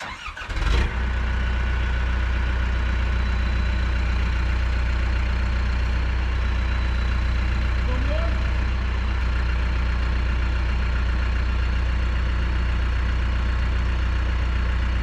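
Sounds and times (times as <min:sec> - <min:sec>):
diesel engine starting and idling: 0:00.0 - 0:15.0.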